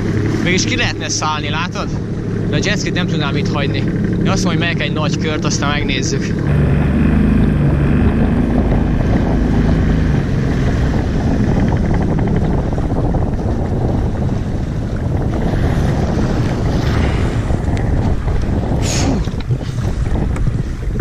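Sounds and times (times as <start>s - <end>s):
jet ski engine running: 0.0s - 21.0s
water rushing past hull: 0.0s - 21.0s
wind rushing over microphone: 0.0s - 21.0s.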